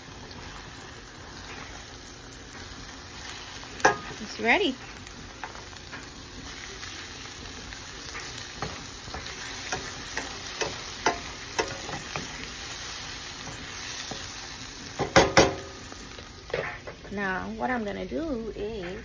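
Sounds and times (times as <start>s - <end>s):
eggs sizzling in a frying pan: 0.0s - 19.0s.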